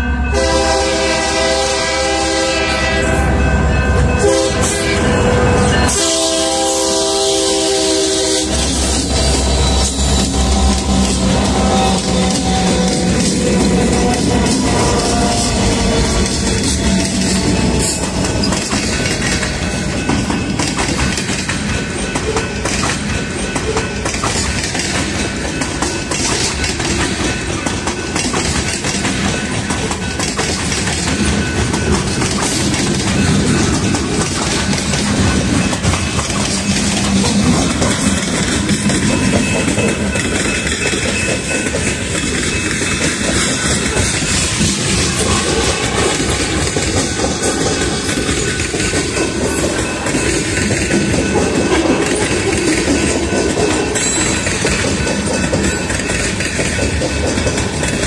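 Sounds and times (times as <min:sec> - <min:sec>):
freight train rumbling: 0:00.0 - 0:58.0
wheels clacking over rail joints: 0:07.0 - 0:58.0.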